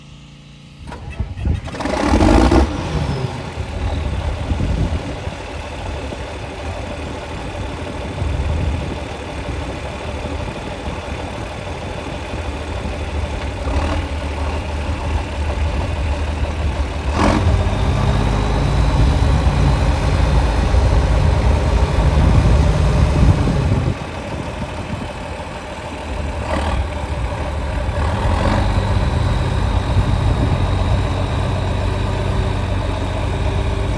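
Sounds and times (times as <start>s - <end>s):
diesel tractor engine idling: 0.0s - 33.9s.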